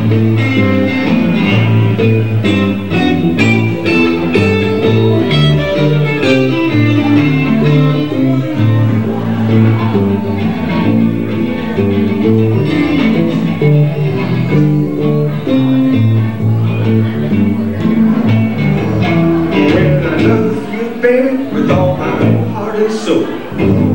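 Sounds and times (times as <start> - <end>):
blues band instrumental: 0.0 - 23.9.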